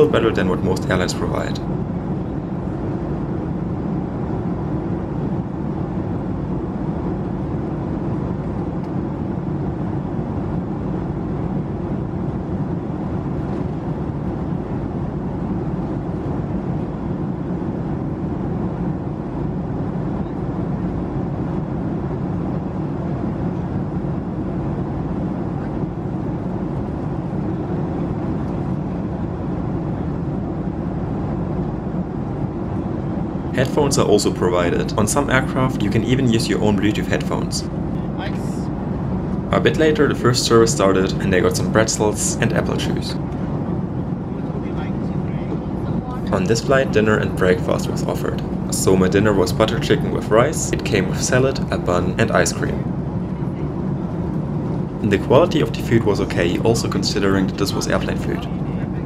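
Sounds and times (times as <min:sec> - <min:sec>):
airliner cabin drone: 0:00.0 - 0:59.0.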